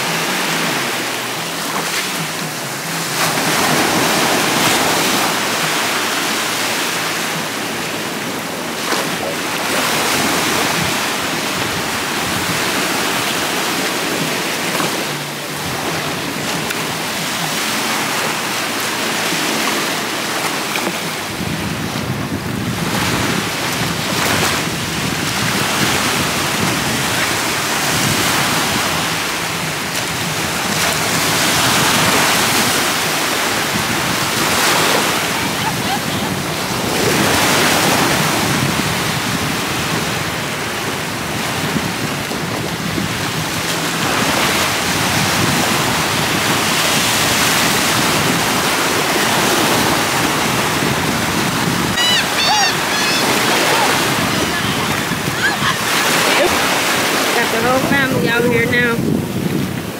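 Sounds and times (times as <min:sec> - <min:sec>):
small waves washing over sand: 0:00.0 - 0:59.9
wind buffeting microphone: 0:02.2 - 0:19.4, 0:20.6 - 0:59.9.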